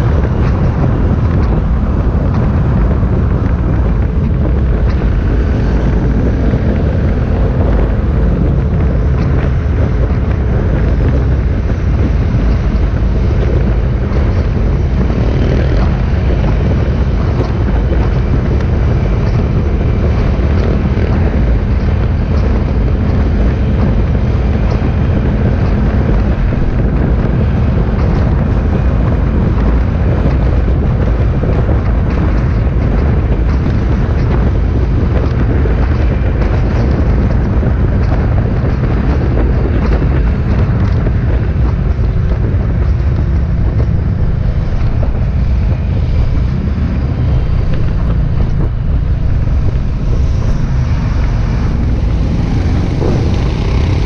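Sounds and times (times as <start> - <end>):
motorcycle engines running: 0.0 - 54.0
wind buffeting microphone: 0.0 - 54.0.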